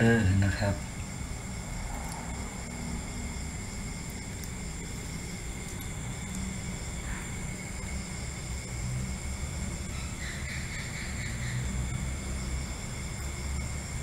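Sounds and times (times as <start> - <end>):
night insects droning: 0.0 - 14.0.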